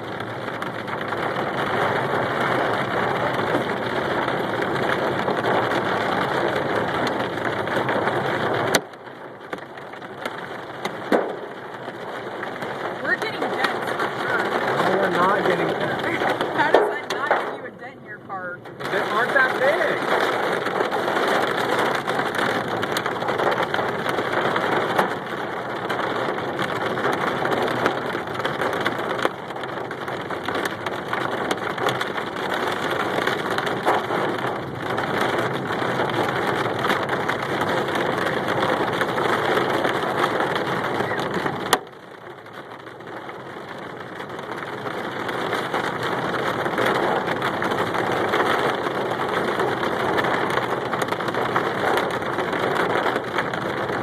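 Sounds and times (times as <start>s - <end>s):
hail pelting a car roof: 0.0s - 54.0s.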